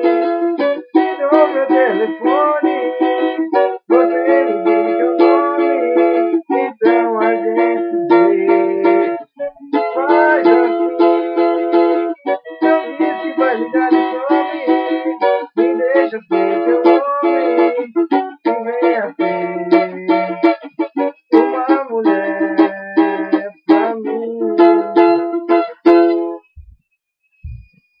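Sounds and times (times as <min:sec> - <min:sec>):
person singing: 0:00.0 - 0:26.3
acoustic string instrument strumming: 0:00.0 - 0:26.4.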